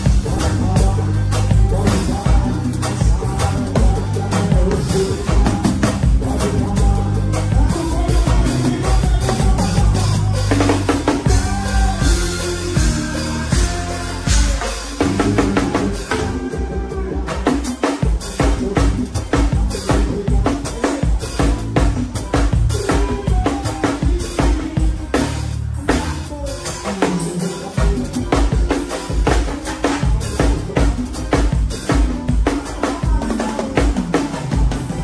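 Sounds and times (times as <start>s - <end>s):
bass and other instruments: 0.0s - 35.0s
drum kit groove: 0.0s - 35.0s.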